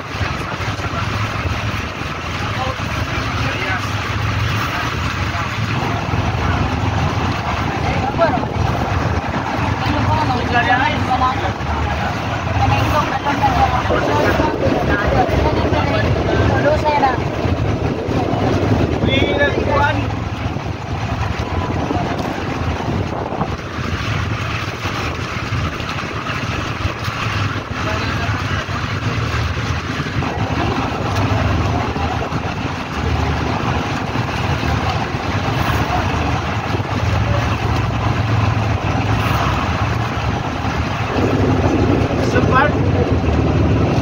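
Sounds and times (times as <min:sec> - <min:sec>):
boat engine rumble: 0:00.0 - 0:44.0
choppy sea: 0:00.0 - 0:44.0
wind buffeting microphone: 0:00.0 - 0:44.0.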